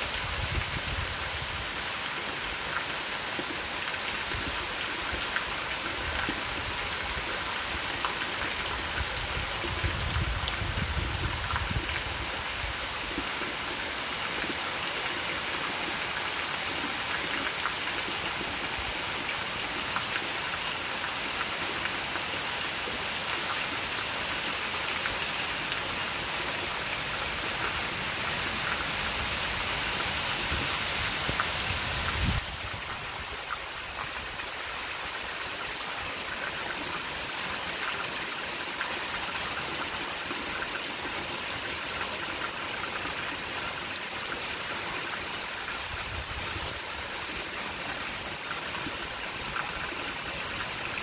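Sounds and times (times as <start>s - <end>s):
heavy rain on concrete: 0.0s - 51.0s.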